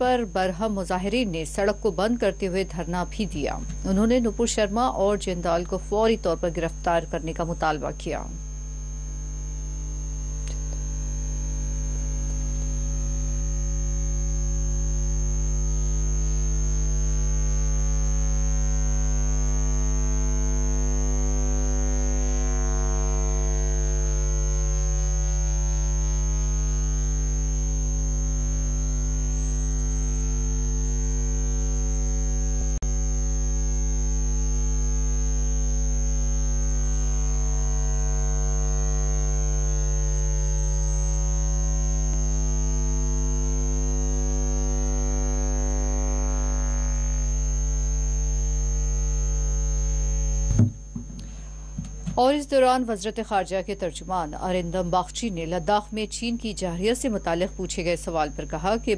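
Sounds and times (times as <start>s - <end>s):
electrical mains hum: 0.0s - 58.9s.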